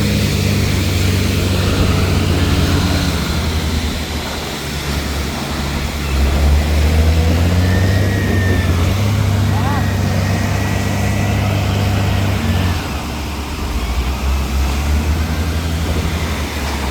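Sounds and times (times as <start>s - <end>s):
truck diesel engine running: 0.0s - 16.9s.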